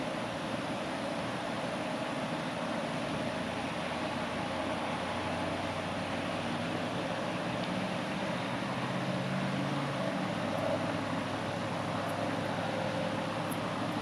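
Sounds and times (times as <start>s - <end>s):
distant traffic hiss and rumble: 0.0s - 14.0s
faint low engine hum: 0.0s - 14.0s.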